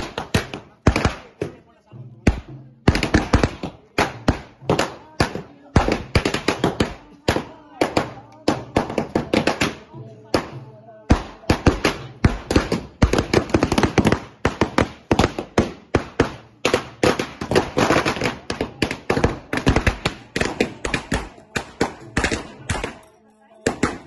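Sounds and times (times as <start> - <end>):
firecrackers cracking: 0.0 - 1.6, 2.2 - 24.0.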